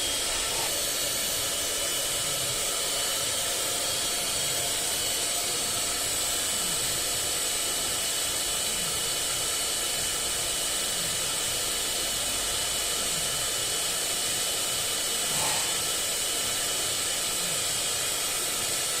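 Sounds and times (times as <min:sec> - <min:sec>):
lathe whirring and hissing: 0:00.0 - 0:19.0.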